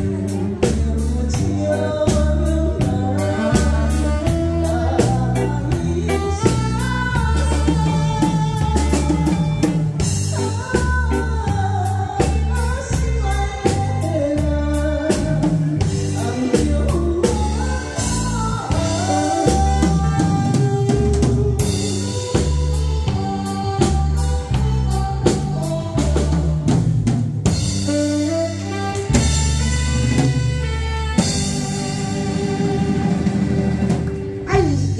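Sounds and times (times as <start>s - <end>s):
woman singing: 0.0s - 27.1s, 33.0s - 34.9s
band accompaniment: 0.0s - 34.9s
bass: 0.0s - 34.9s
drum kit beat: 0.0s - 34.9s.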